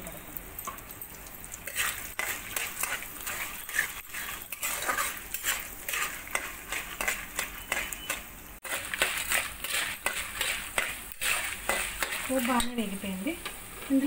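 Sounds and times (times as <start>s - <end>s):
oil sizzling: 0.0s - 14.0s
metal spatula scraping a pan: 1.6s - 13.0s.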